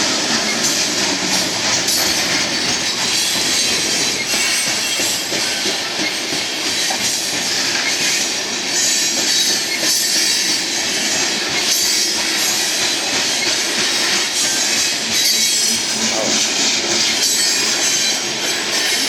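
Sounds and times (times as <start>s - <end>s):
train wheels squealing and clacking: 0.0s - 19.0s.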